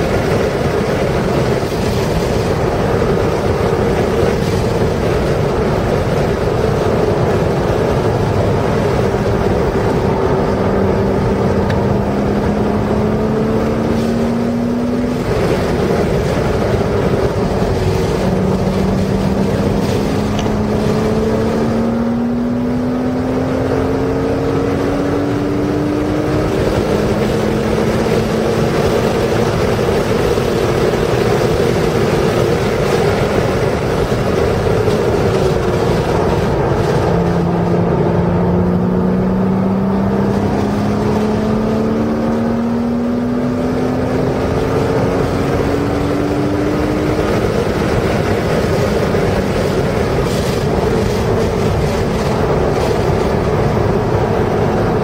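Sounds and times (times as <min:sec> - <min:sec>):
car engine accelerating: 0:00.0 - 0:55.0
wind and tyre noise: 0:00.0 - 0:55.0.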